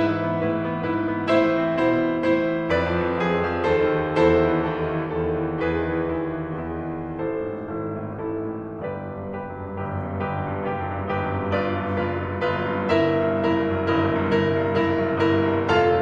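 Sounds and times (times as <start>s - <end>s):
slow gentle piano: 0.0s - 16.0s.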